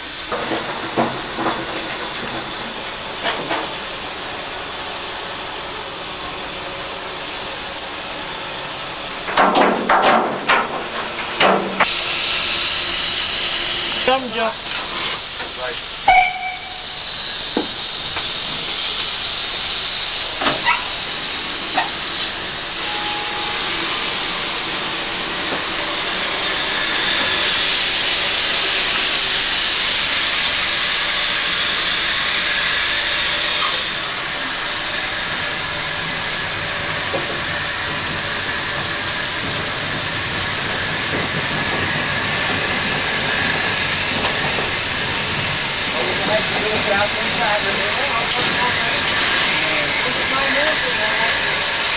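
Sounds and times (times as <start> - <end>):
loud steam hiss: 0.0 - 51.9.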